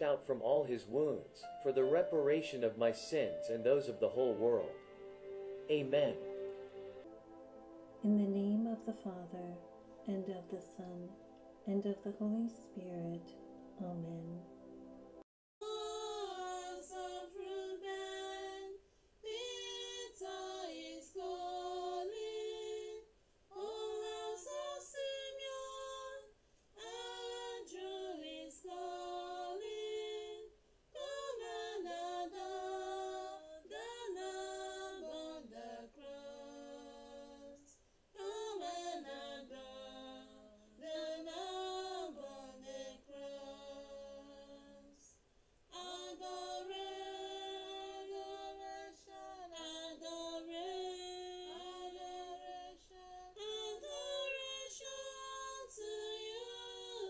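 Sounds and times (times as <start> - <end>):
woman singing a hymn: 8.0 - 14.4, 15.6 - 57.0.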